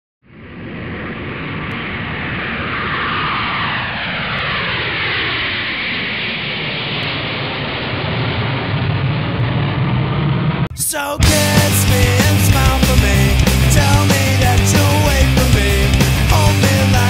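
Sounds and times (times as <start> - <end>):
jet airliner flying over: 0.3 - 17.0.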